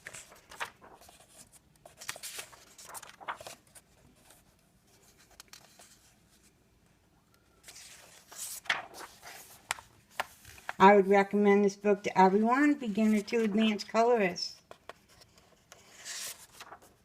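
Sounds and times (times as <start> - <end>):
paper rustling: 0.0 - 6.6, 7.6 - 11.1, 12.6 - 17.0.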